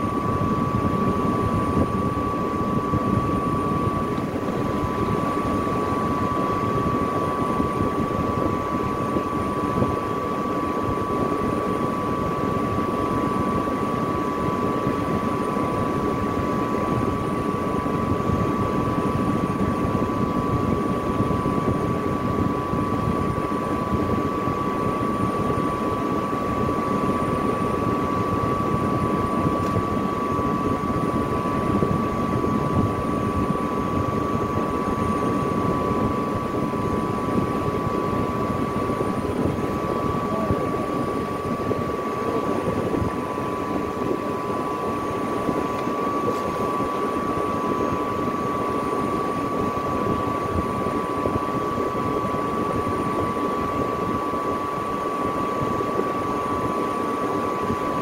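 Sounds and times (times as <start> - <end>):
industrial machinery whine: 0.0 - 58.0.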